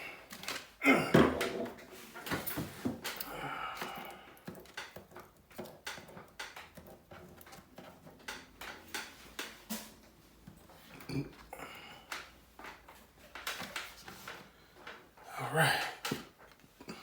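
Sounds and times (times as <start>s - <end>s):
small tools clicking and tapping: 0.0s - 15.3s, 15.9s - 17.0s.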